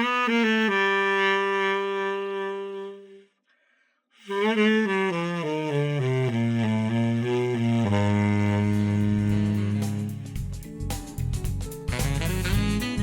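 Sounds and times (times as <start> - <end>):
tenor saxophone solo: 0.0 - 3.3, 4.2 - 10.6, 11.9 - 13.0.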